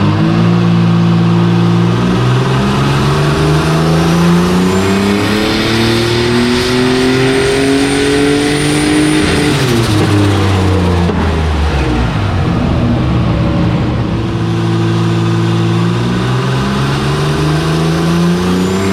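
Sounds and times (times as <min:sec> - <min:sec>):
engine revving under load: 0:00.0 - 0:18.9.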